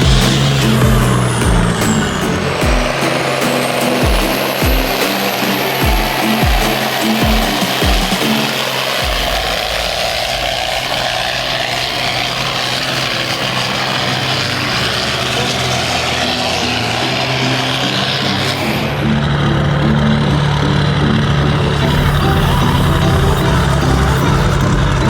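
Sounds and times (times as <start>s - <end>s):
loud rough exhaust: 0.0s - 25.0s
tractor diesel engine revving: 0.0s - 25.0s.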